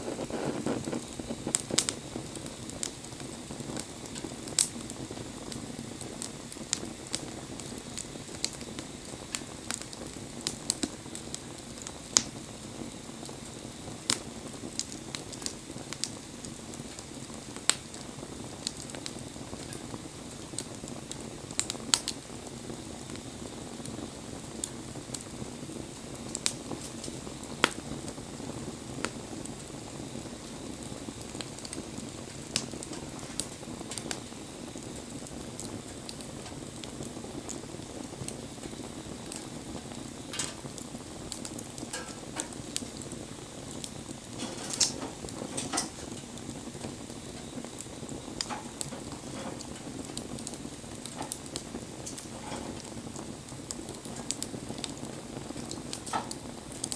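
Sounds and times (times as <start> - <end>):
bonfire hissing and popping: 0.0 - 56.9.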